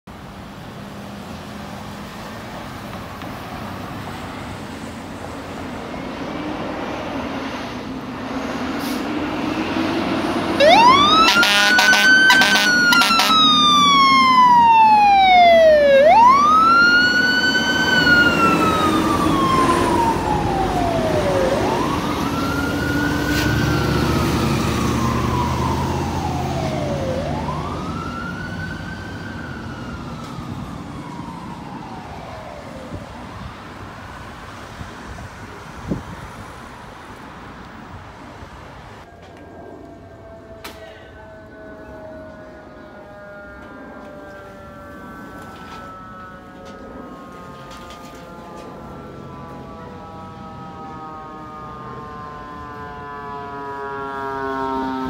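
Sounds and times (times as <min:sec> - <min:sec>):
diesel engines rumbling: 0:00.1 - 0:55.0
fire truck sirens wailing: 0:00.1 - 0:55.0.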